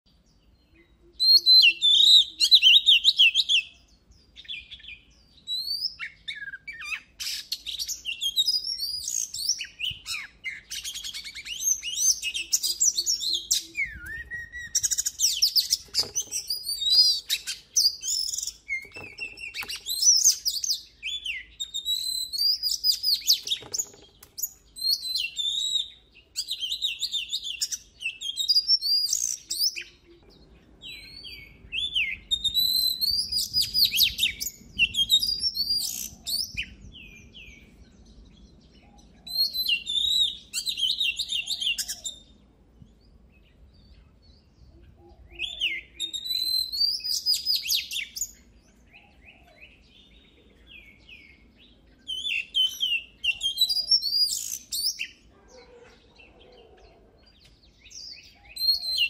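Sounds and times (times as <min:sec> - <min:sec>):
bird singing whistled phrases: 0:00.7 - 0:37.7, 0:39.2 - 0:42.3, 0:45.0 - 0:55.2, 0:57.8 - 0:59.0.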